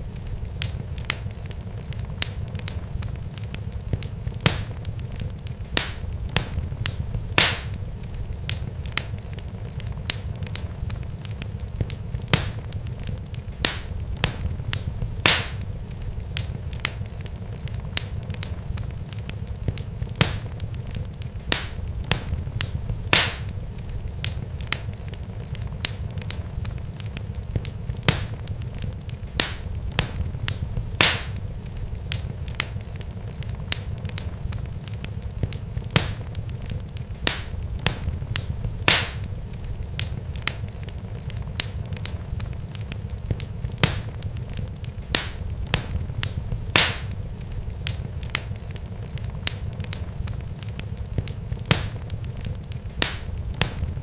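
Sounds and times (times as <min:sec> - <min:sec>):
crackling and popping: 0:00.0 - 0:54.0
steady low rumble: 0:00.0 - 0:54.0.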